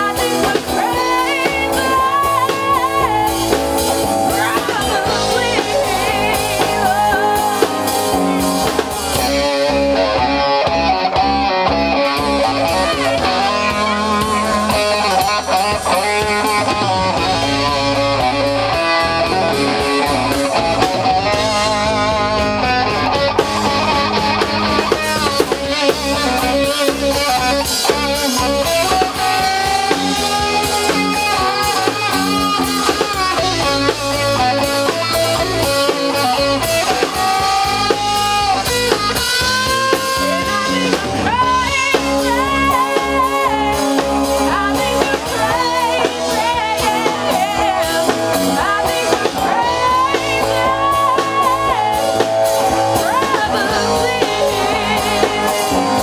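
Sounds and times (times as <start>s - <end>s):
bass guitar: 0.0s - 56.0s
drum kit: 0.0s - 56.0s
electric guitars: 0.0s - 56.0s.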